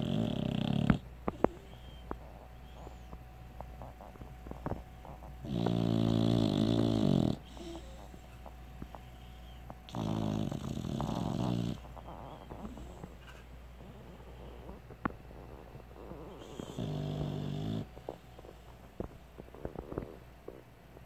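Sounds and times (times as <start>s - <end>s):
puppy snoring: 0.0s - 21.0s.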